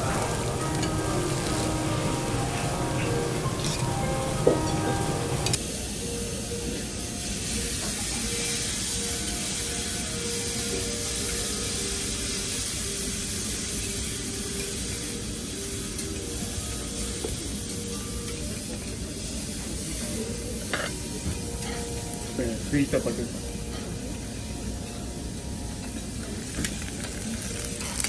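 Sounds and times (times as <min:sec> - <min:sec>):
food sizzling on a griddle: 0:00.0 - 0:28.0.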